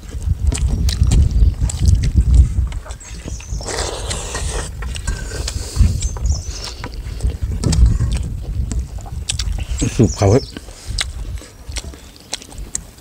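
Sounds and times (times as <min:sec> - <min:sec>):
chewing: 0:00.0 - 0:13.0
wind buffeting microphone: 0:00.0 - 0:13.0.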